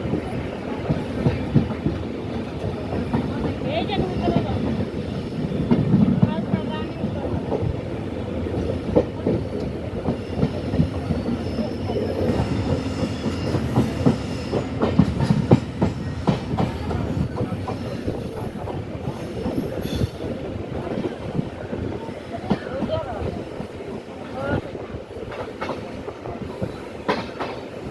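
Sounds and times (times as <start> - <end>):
train wheels clattering on rails: 0.0 - 27.9.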